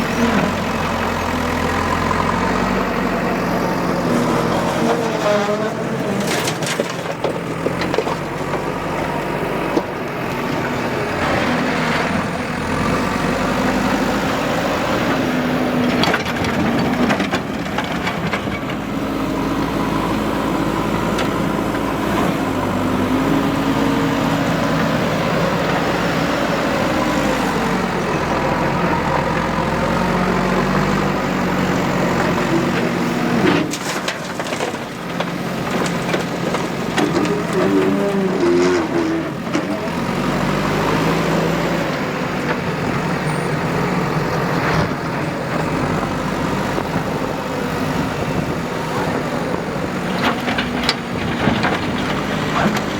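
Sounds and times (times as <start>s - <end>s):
diesel digger engine working: 0.0s - 52.9s.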